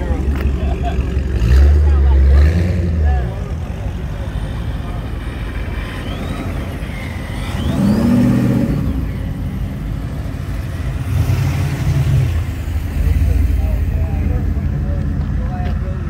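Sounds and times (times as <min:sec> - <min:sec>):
car engines rumbling: 0:00.0 - 0:16.0
engine revving: 0:01.1 - 0:15.8.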